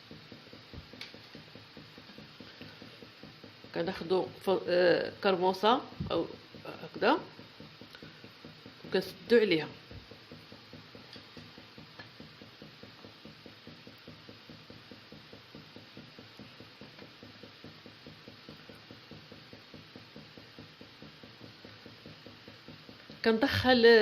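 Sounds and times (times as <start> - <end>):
faint mechanical ticking: 0.0 - 24.0.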